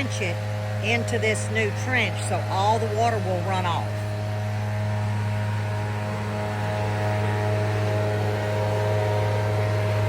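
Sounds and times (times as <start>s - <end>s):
machine hum with low drone: 0.0s - 10.0s.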